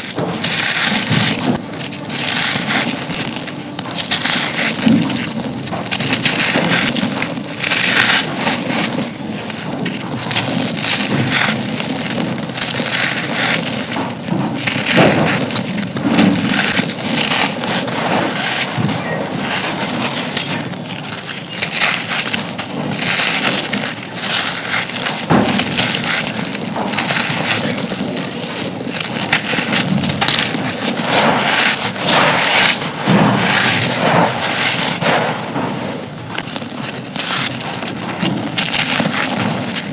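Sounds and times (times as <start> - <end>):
concrete crunching: 0.0 - 39.9.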